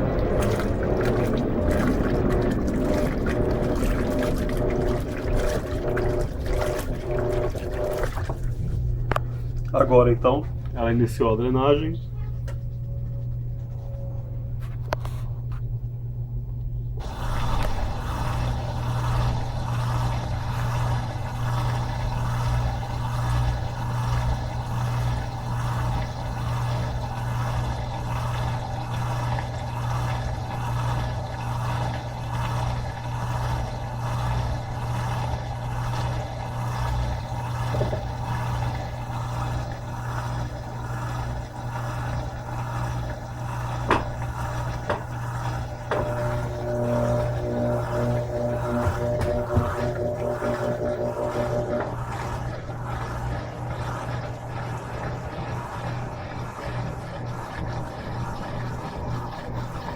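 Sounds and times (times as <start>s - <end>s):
water rushing out: 0.0s - 8.7s, 17.0s - 56.6s
drain pump humming: 0.0s - 59.9s.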